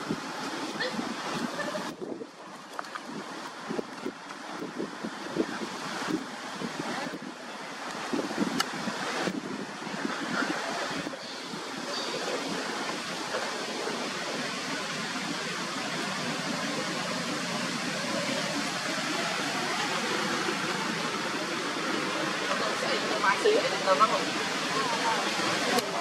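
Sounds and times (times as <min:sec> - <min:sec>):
steady rushing outdoor noise: 0:00.0 - 0:26.0.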